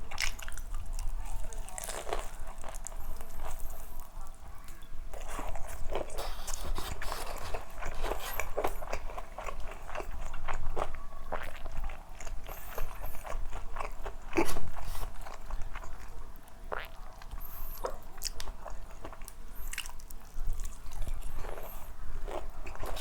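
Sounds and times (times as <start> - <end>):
crunchy chewing of fried food: 0.0 - 23.0.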